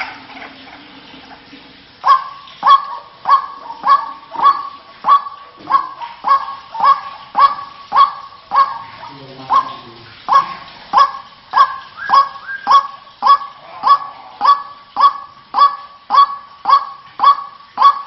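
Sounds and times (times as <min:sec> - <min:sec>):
bird honking calls: 0:02.0 - 0:18.0.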